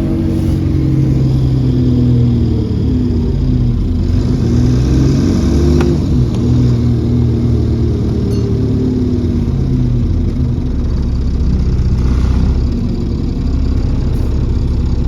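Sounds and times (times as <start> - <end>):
bus diesel engine under load: 0.0 - 15.0
faint turbo whine: 0.0 - 15.0.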